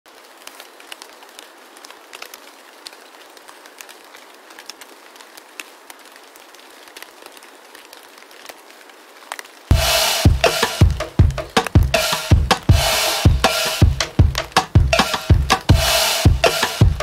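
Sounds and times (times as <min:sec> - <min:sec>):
crackling hiss: 0:00.6 - 0:17.0.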